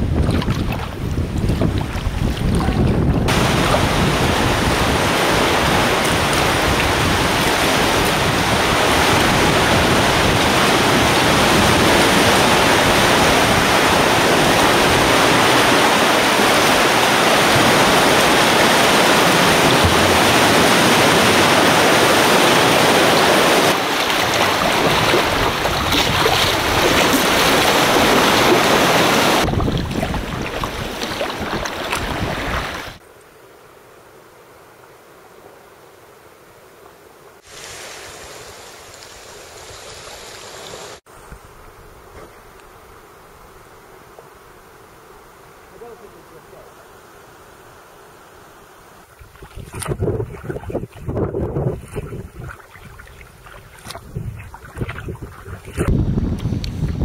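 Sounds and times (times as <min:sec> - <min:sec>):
seawater rushing: 0:00.0 - 0:33.0, 0:37.4 - 0:57.0.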